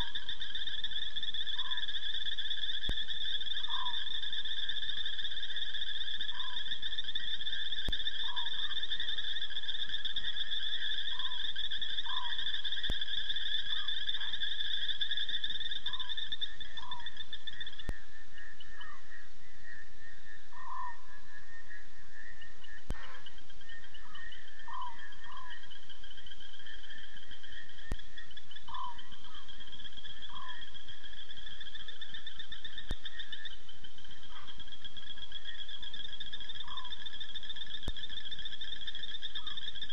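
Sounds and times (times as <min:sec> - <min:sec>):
insects trilling: 0:00.0 - 0:39.9
short frog calls: 0:00.0 - 0:39.9.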